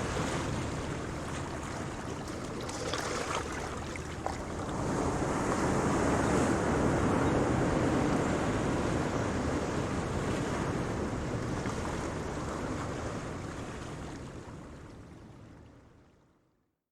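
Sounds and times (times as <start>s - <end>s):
ocean waves breaking: 0.0s - 13.8s.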